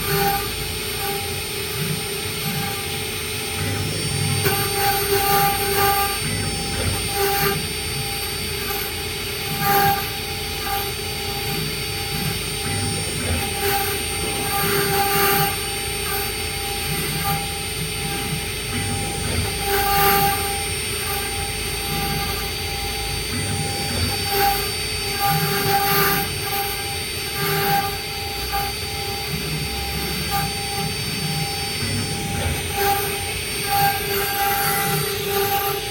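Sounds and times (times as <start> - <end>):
stone router whining and grinding: 0.0 - 35.9.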